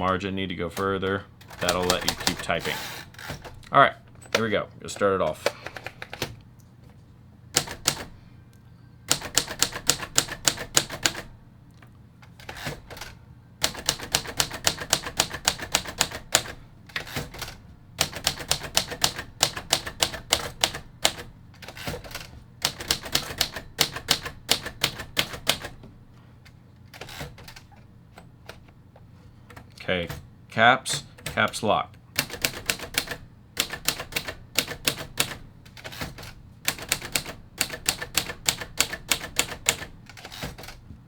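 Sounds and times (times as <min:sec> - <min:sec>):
manual typewriter key strikes: 0:00.0 - 0:06.4, 0:07.5 - 0:08.2, 0:09.1 - 0:11.4, 0:12.4 - 0:25.9, 0:26.9 - 0:28.6, 0:29.6 - 0:40.8.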